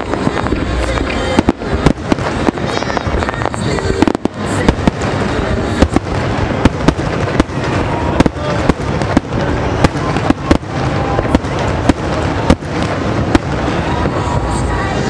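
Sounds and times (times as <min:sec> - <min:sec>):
rumble and crackle of explosions: 0:00.0 - 0:15.0.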